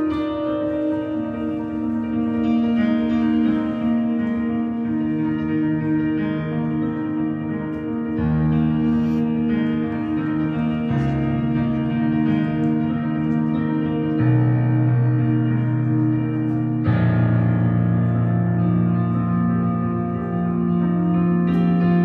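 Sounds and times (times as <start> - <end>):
piano playing slow chords: 0.0 - 22.0.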